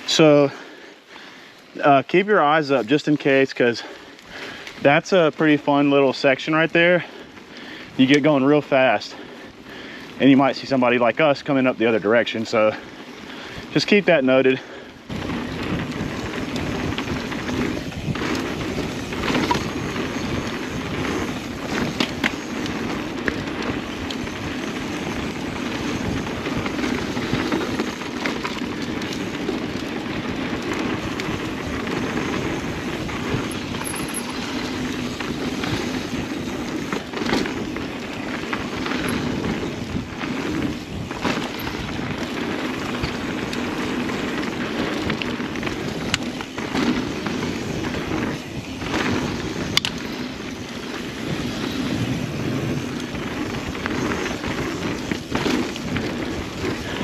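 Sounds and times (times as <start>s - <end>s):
bike rattling: 0.0s - 57.0s
bike tyres rumbling on dirt: 0.0s - 57.0s.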